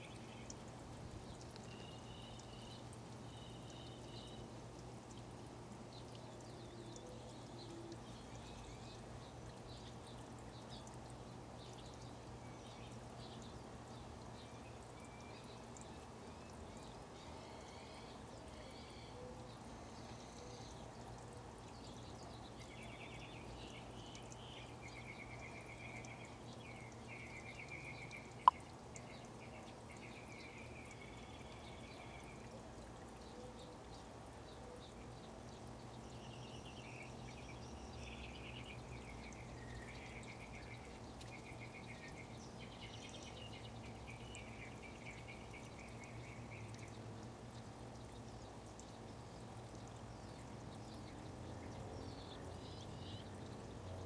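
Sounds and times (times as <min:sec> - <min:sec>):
low outdoor background hum: 0:00.0 - 0:54.0
songbirds chirping and trilling: 0:00.0 - 0:54.0.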